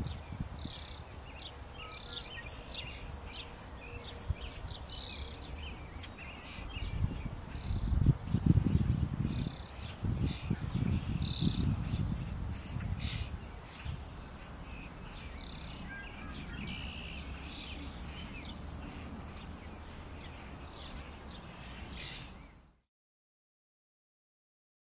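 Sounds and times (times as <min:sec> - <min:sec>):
birds chirping: 0:00.0 - 0:22.8
steady background hiss: 0:00.0 - 0:22.8.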